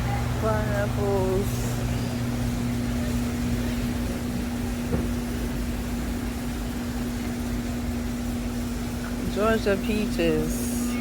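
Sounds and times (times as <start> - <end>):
rumbling background noise: 0.0 - 11.0
steady machine hum: 0.0 - 11.0.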